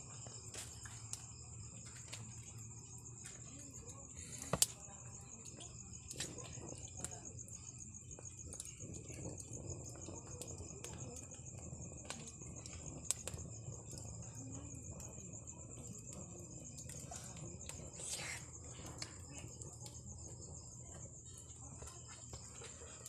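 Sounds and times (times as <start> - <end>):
crickets chirping: 0.0 - 23.0
faint background voices: 2.4 - 23.0.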